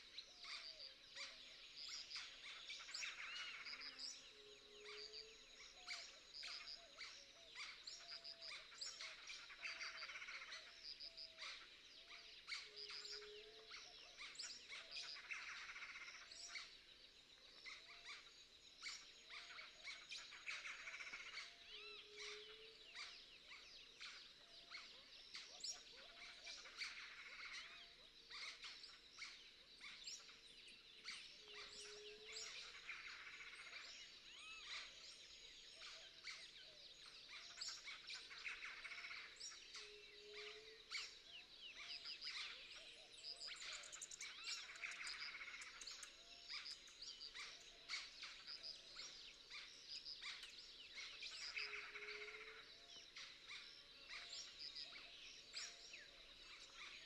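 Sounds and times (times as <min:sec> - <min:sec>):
small birds chirping chorus: 0:00.0 - 0:57.0.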